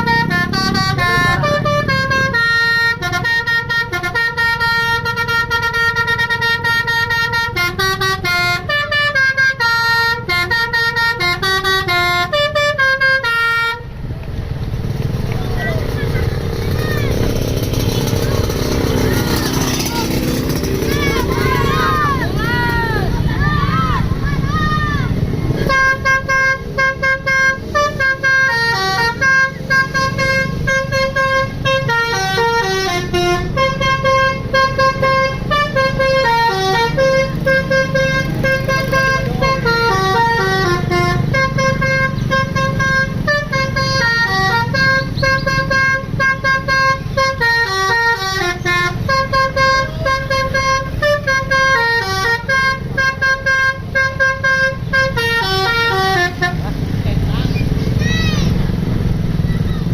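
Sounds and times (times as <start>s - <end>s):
bus horn playing a melody: 0.0s - 14.0s, 16.3s - 22.9s, 25.6s - 57.0s
bus engine running: 0.0s - 59.9s.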